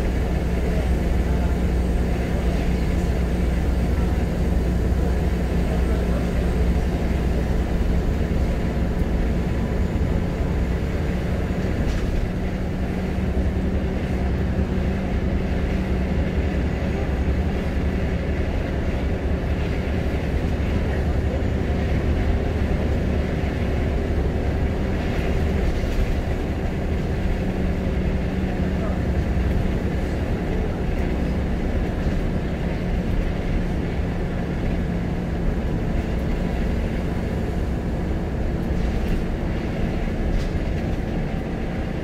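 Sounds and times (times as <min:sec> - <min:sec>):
bus engine droning: 0:00.0 - 0:42.0.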